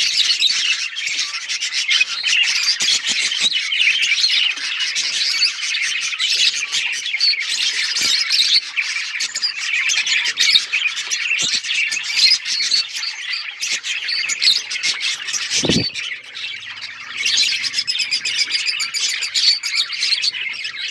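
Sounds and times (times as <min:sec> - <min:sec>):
budgerigars chattering: 0:00.1 - 0:20.9.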